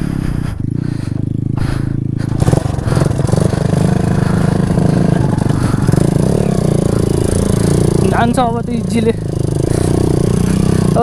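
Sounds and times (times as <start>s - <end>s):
motorcycle engine straining: 0.0s - 11.0s.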